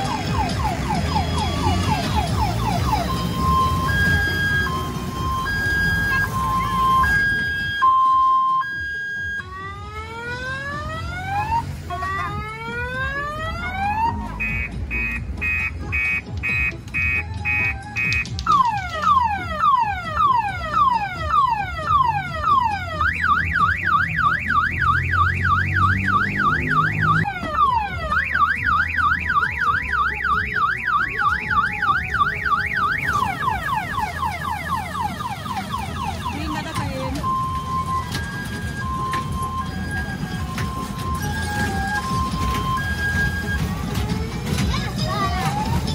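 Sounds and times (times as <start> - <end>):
car alarm siren over loudspeaker: 0.0 - 45.9.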